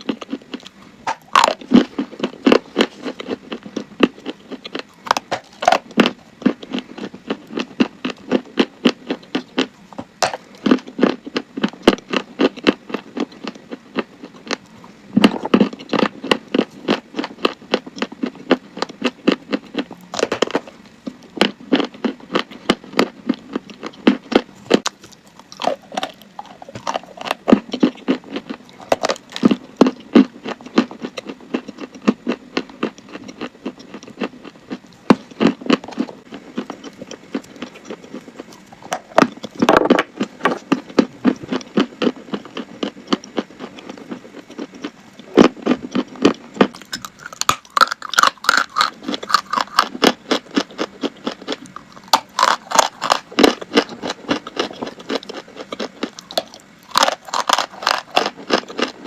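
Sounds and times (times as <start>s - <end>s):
chalk being chewed crunching: 0.0s - 59.0s.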